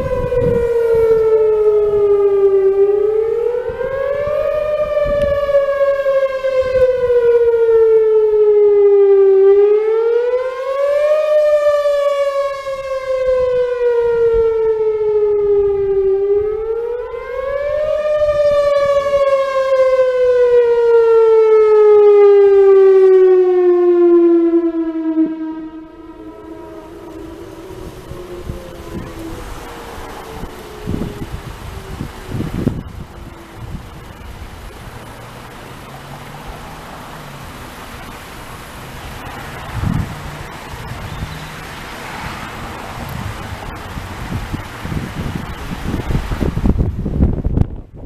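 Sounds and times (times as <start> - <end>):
electronic warning siren wail: 0.0 - 48.0.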